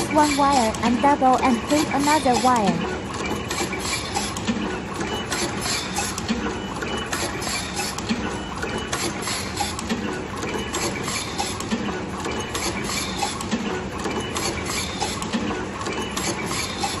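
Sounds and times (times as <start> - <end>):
crimping machine clacking: 0.0 - 17.0.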